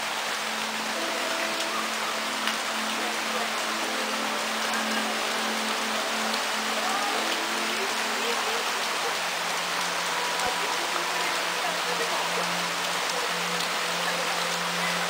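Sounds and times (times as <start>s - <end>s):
heavy rain on grass and leaves: 0.0s - 15.0s.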